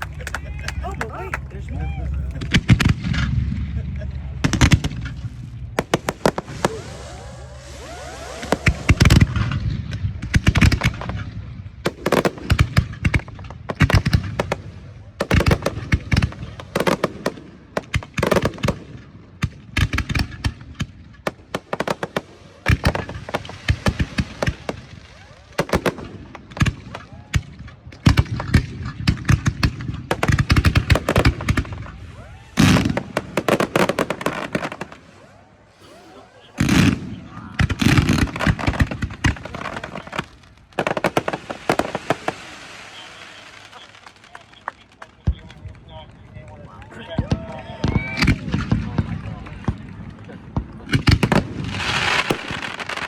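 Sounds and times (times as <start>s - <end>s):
fireworks exploding: 0.0s - 53.0s.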